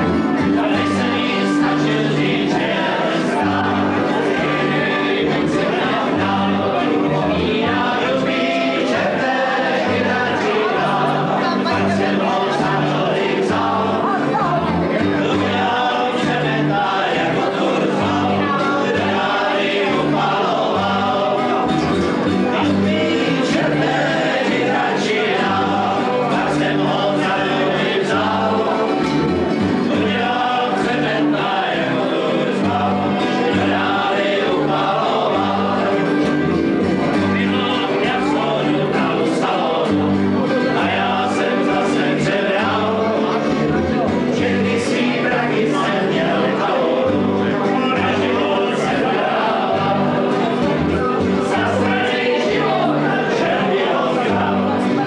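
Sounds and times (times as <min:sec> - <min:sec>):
men singing together: 0:00.0 - 0:55.0
plucked double bass: 0:00.0 - 0:55.0
strummed acoustic guitars: 0:00.0 - 0:55.0.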